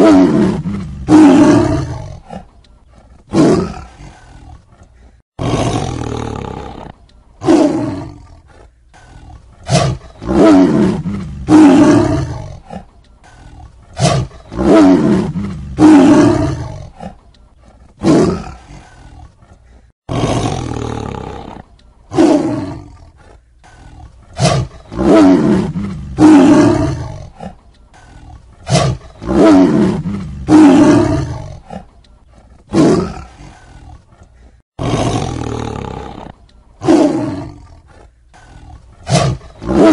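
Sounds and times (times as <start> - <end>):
tiger roaring and growling: 0.0 - 39.9.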